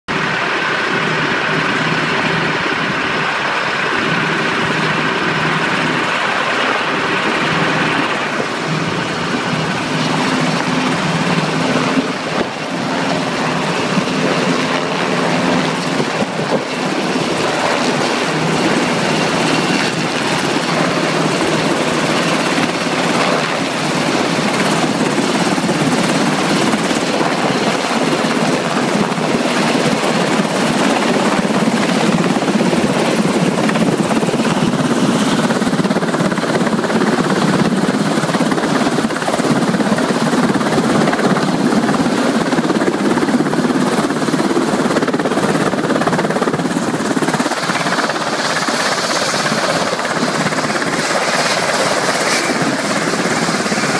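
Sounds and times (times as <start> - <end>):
helicopter rotor and turbine engines: 0.0 - 53.9.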